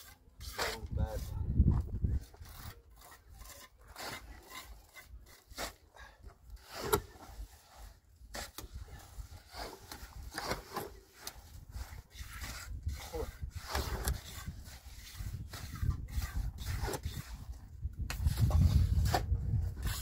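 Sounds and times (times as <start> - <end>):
hand tool scraping wood: 0.0 - 20.0.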